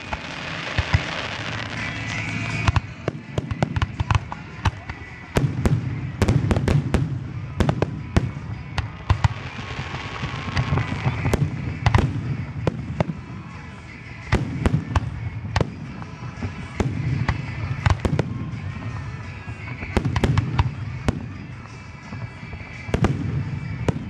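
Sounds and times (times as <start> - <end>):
fireworks booming: 0.0 - 24.0
fireworks crackling: 0.0 - 24.0.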